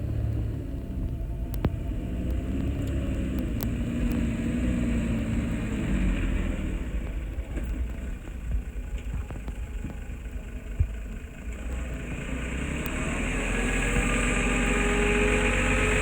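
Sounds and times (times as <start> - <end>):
diesel engine low rumble: 0.0 - 16.0.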